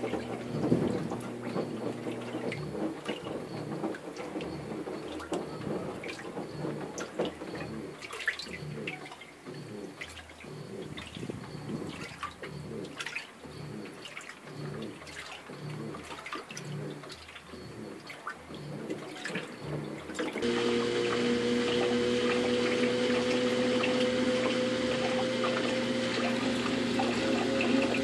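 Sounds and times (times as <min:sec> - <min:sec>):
washing machine motor hum: 0:00.0 - 0:28.0
water sloshing and splashing: 0:00.0 - 0:28.0.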